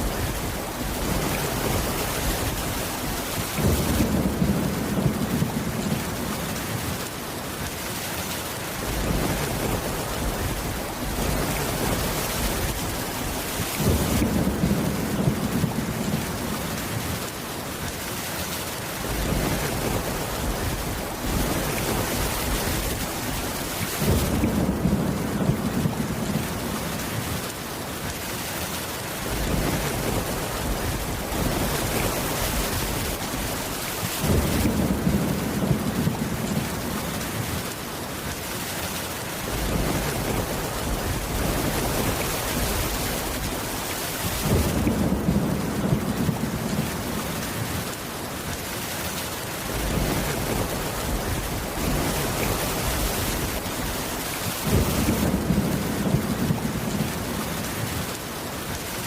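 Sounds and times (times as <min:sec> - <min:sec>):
low rumble of thunder: 0:00.0 - 0:07.2, 0:08.8 - 0:17.3, 0:19.0 - 0:27.5, 0:29.2 - 0:37.8, 0:39.4 - 0:48.0, 0:49.7 - 0:58.2
steady rain falling: 0:00.0 - 0:59.0.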